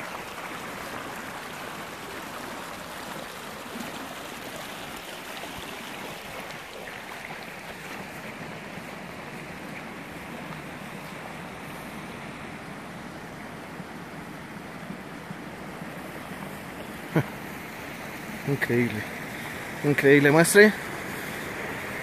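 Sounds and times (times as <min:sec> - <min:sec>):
stream flowing over rocks: 0:00.0 - 0:22.0.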